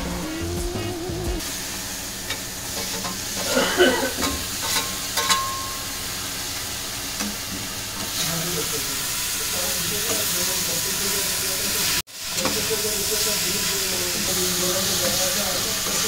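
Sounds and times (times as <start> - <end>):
mushrooms sizzling in a pan: 1.4 - 16.0.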